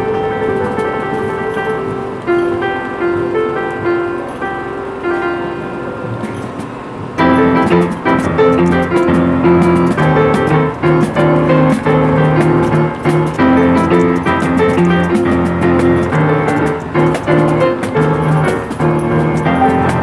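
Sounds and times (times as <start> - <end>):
street piano playing chords: 0.0 - 20.0.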